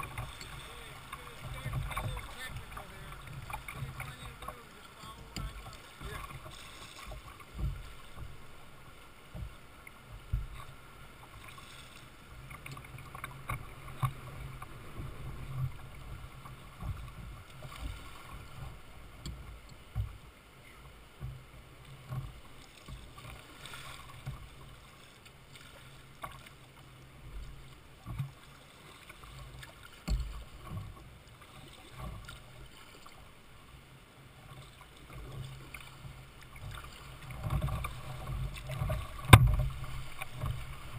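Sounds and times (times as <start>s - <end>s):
paddle strokes splashing: 0.0s - 40.9s
water lapping against plastic hull: 0.0s - 40.9s.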